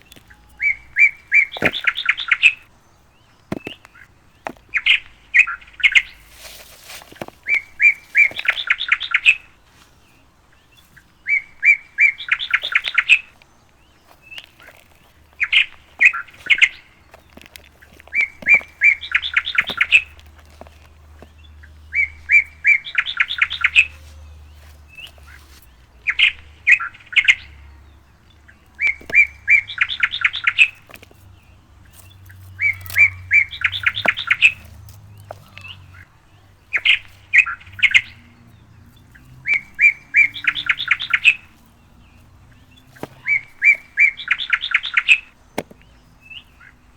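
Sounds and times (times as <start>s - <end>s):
songbird singing repeated phrase: 0.0s - 46.9s.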